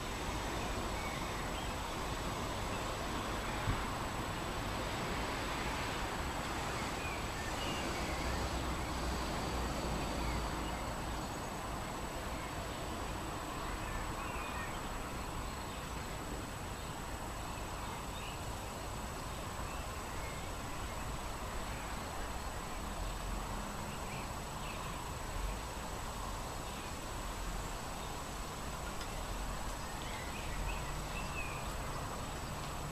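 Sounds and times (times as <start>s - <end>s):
wind in tree leaves: 0.0s - 32.9s.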